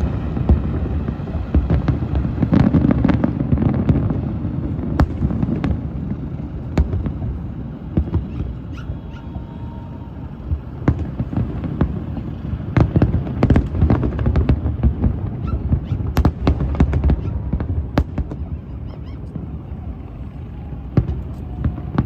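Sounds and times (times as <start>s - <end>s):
fireworks popping and cracking: 0.0s - 9.1s, 10.4s - 22.0s.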